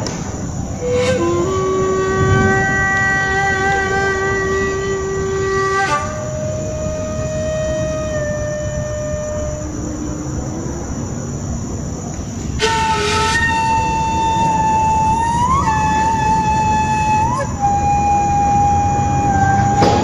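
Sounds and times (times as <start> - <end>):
low background noise: 0.0 - 20.0
solo flute long notes: 0.6 - 11.2, 12.5 - 20.0.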